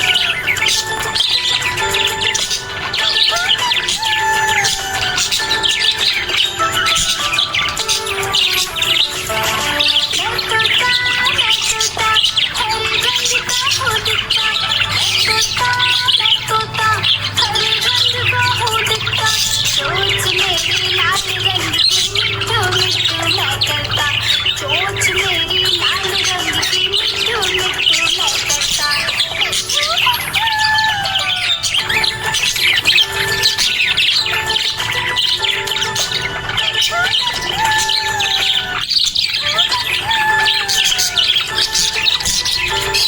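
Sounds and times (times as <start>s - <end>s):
background song: 0.0s - 43.0s
budgerigars chirping: 0.0s - 43.0s.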